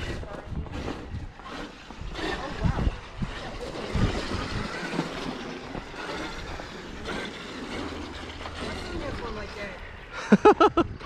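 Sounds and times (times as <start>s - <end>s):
toy truck churning through snow: 0.0s - 10.4s.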